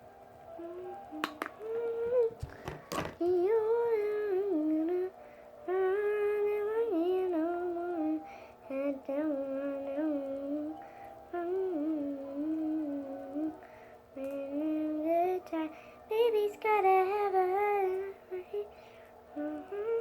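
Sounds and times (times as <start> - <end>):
girl singing: 0.5 - 20.0.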